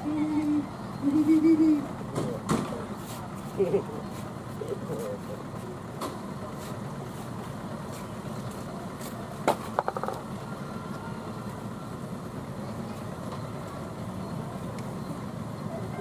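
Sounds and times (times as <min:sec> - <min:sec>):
traffic engines running: 0:00.0 - 0:16.0.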